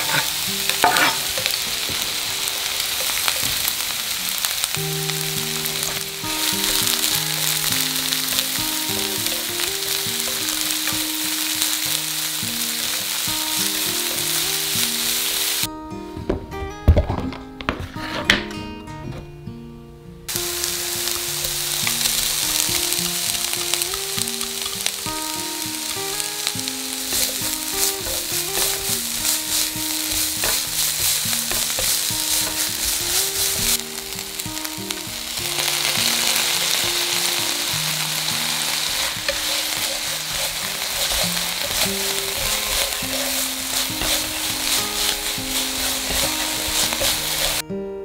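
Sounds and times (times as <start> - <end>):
vegetables sizzling in frying pan: 0.0 - 15.7, 20.3 - 47.6
soft guitar music: 0.0 - 48.0.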